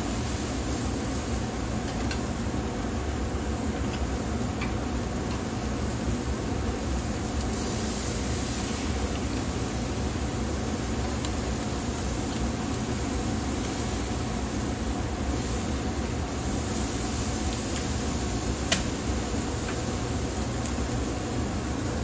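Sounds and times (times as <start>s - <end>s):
meat hissing on a grill: 0.0s - 22.0s.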